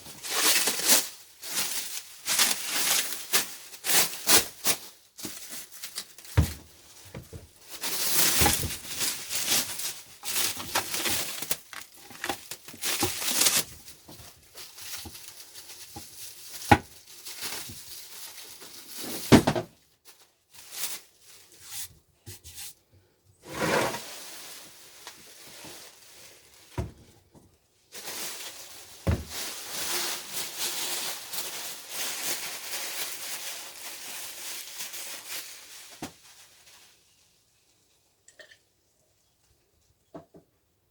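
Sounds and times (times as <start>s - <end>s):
plastic wrap crinkling and tearing: 0.0s - 21.8s, 23.8s - 27.2s, 27.8s - 37.2s.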